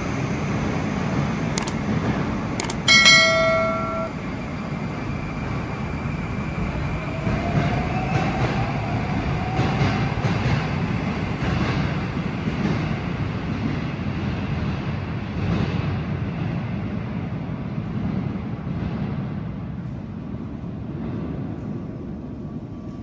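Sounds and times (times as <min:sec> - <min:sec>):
metro train rumble: 0:00.0 - 0:23.0.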